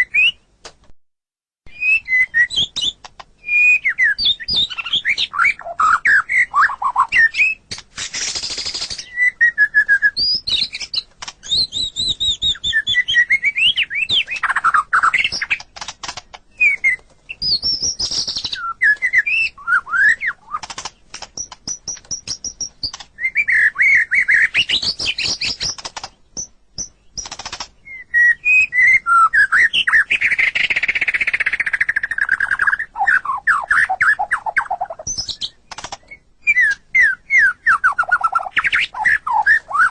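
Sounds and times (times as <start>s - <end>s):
songbird whistling song: 0.0s - 0.5s, 1.7s - 15.7s, 16.5s - 39.9s.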